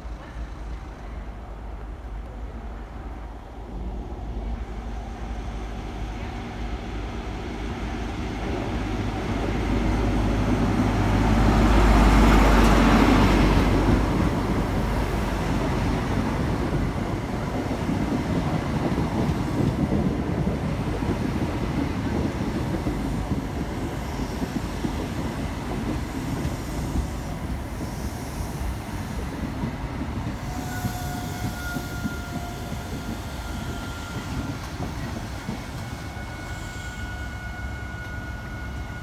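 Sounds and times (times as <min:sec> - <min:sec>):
diesel train running: 0:00.0 - 0:39.0.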